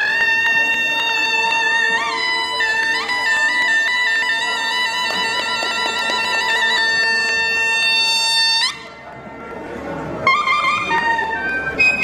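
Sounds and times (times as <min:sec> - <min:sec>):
reedy shawm melody: 0:00.0 - 0:12.0.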